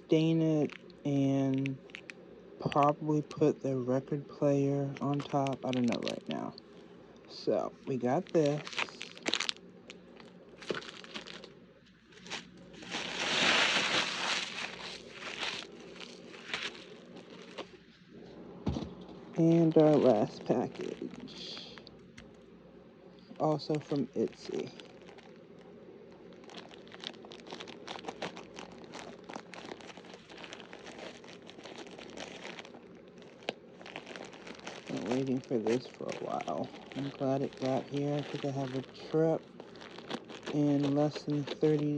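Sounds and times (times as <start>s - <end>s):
packaging rustling: 4.9s - 22.4s, 23.4s - 41.9s.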